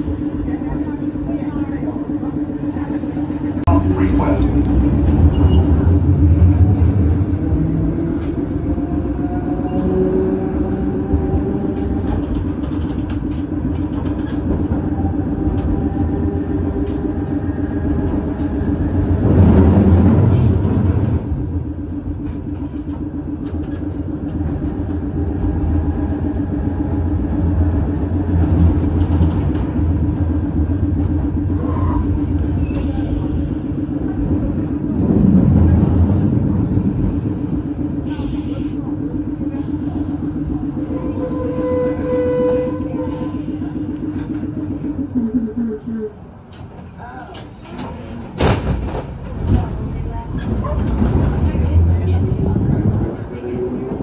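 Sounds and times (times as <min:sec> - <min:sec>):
streetcar wheels rumbling on rail: 0:00.0 - 0:54.0.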